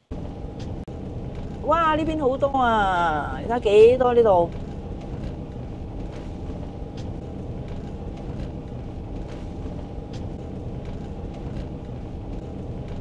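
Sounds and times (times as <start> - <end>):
car cabin road noise: 0.0 - 13.0.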